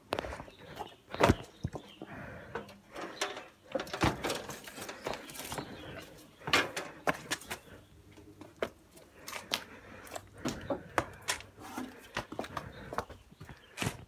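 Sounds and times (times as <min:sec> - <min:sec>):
footsteps on concrete: 0:00.0 - 0:02.6, 0:04.0 - 0:14.0.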